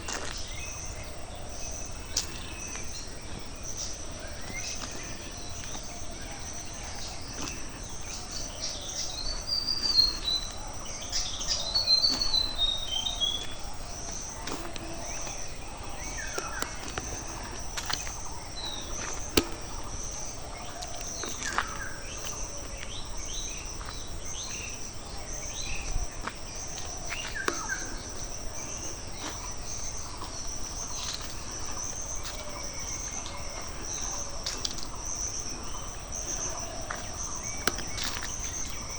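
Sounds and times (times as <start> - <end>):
birds calling: 0.0 - 38.9
insect drone: 0.0 - 38.9.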